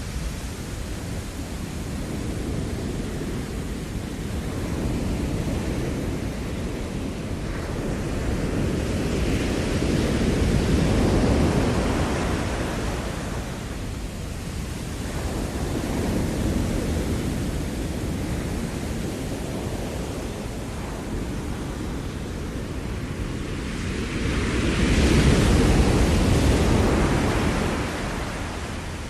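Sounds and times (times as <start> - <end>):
ocean surf washing ashore: 0.0 - 29.0.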